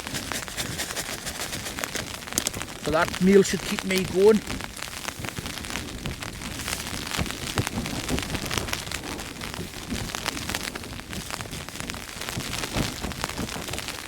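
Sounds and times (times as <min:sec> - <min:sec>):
tent fabric flapping: 0:00.0 - 0:03.6, 0:04.3 - 0:14.0
heavy rain drumming on a tent: 0:00.0 - 0:14.0.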